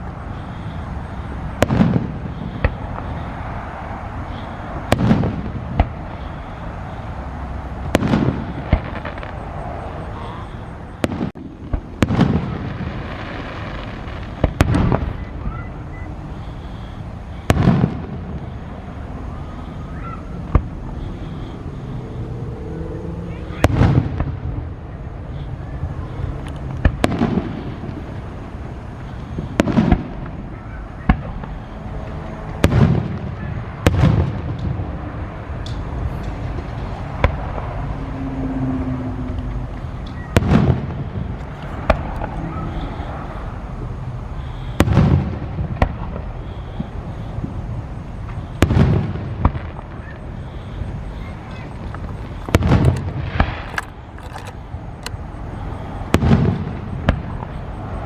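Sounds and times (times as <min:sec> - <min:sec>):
fireworks booming: 0:00.0 - 0:58.0
fireworks sharp cracks: 0:00.0 - 0:58.0.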